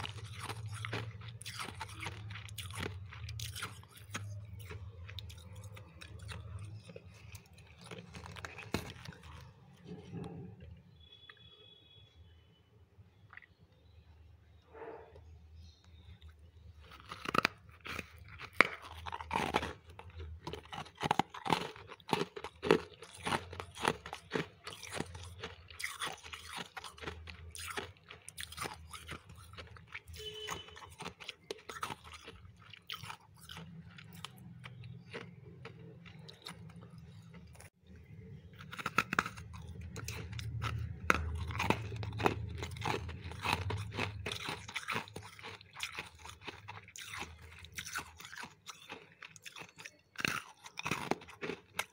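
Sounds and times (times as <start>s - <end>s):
chewing crunchy ice: 0.0s - 11.5s, 13.2s - 14.0s, 15.2s - 51.9s.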